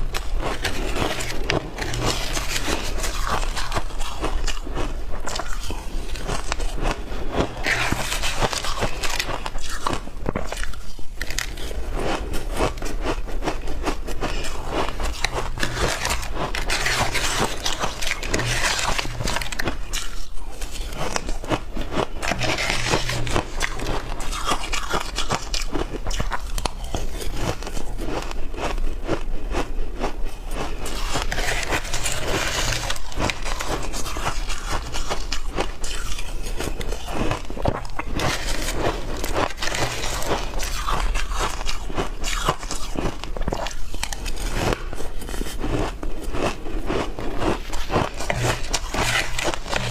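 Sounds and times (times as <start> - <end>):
ice being crunched and chewed: 0.0 - 49.9.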